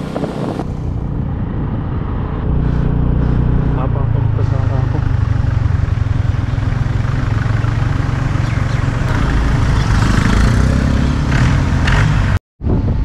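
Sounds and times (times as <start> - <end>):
scooter engine hum: 0.0 - 11.4
wind and road rumble: 0.0 - 13.0.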